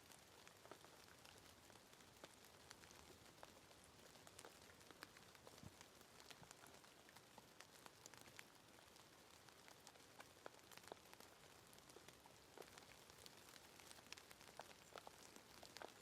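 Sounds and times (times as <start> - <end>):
raindrops ticking: 0.0 - 16.0
soft hiss of rain: 0.0 - 16.0.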